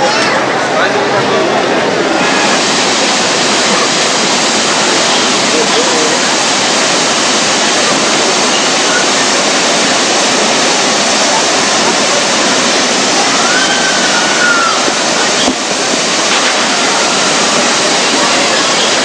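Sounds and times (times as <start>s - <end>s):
waterfall rushing into pool: 0.0s - 19.0s.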